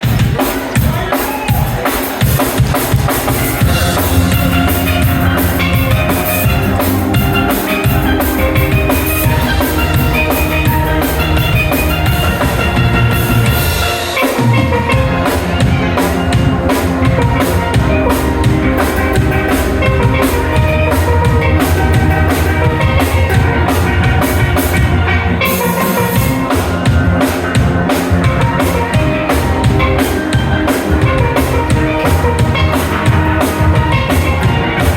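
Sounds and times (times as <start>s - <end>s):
steel band playing: 0.0s - 34.9s.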